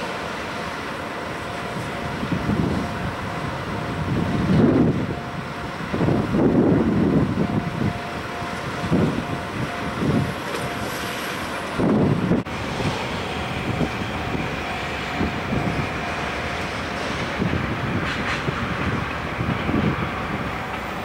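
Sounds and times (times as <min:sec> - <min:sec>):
diesel locomotive pulling away: 0:00.0 - 0:21.0
level crossing alarm ringing: 0:00.1 - 0:11.8, 0:12.8 - 0:21.0.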